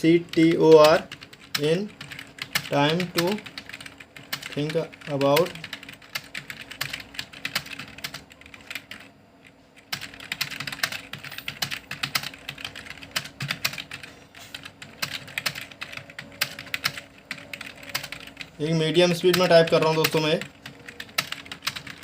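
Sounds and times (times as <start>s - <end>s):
typing on computer keyboard: 0.3s - 9.1s, 9.8s - 22.0s.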